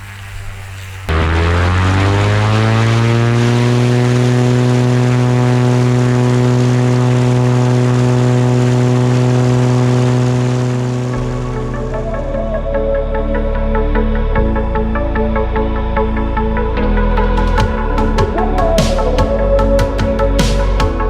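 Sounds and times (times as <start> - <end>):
propeller airplane engine: 0.0 - 21.0.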